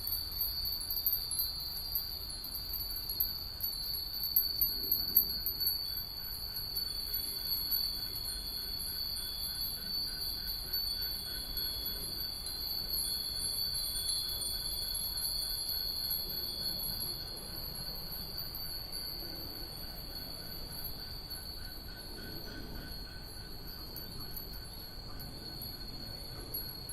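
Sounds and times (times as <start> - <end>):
wind bells tinkling: 0.0 - 26.9.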